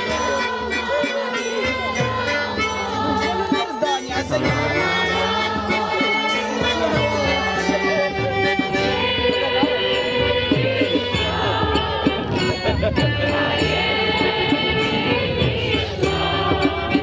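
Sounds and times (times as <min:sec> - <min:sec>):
crowd singing together: 0:00.0 - 0:17.0
instrumental drone: 0:00.0 - 0:17.0
light rhythmic percussion: 0:00.0 - 0:17.0.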